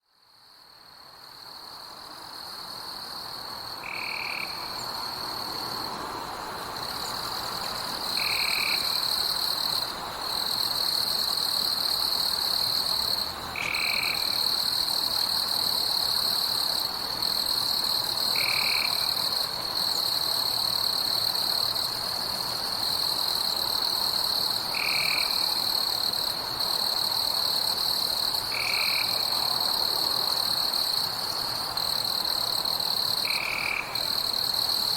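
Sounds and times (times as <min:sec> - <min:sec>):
insects trilling: 0:03.4 - 0:34.9.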